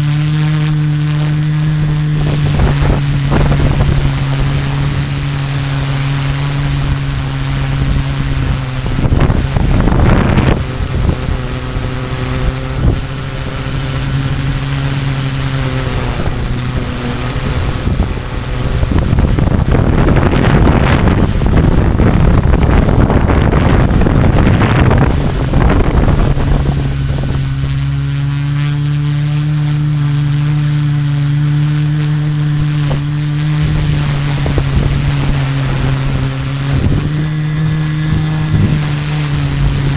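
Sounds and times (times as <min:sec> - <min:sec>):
drone motors humming: 0:00.0 - 0:39.9
wind on microphone: 0:00.0 - 0:39.9.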